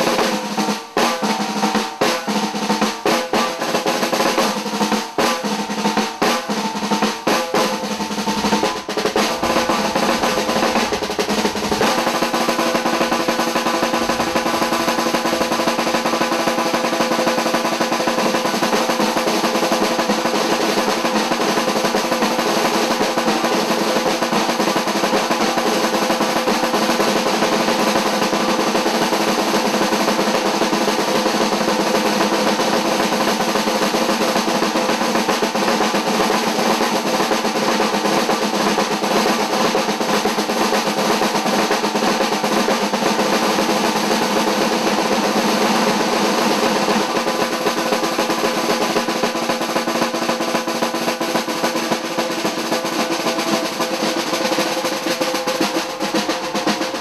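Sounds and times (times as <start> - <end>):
snare drums played with sticks: 0.0 - 57.0.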